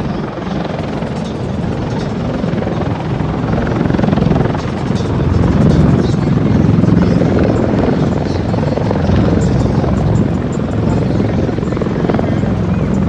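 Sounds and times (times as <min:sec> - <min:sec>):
helicopter engine noise: 0:00.0 - 0:13.0
helicopter rotor beat: 0:00.0 - 0:13.0.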